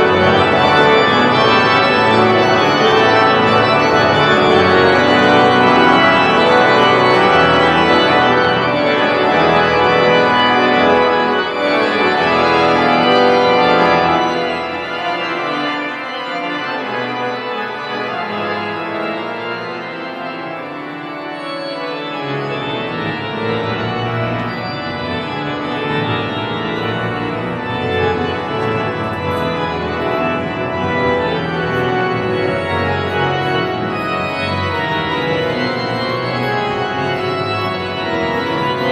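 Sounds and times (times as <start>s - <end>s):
pipe organ playing chords: 0.0s - 38.9s.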